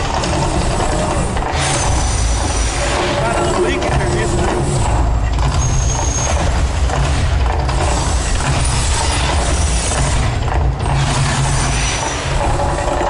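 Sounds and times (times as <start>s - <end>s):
deep continuous rumble: 0.0s - 13.0s
dense crackling and rattling: 0.0s - 13.0s.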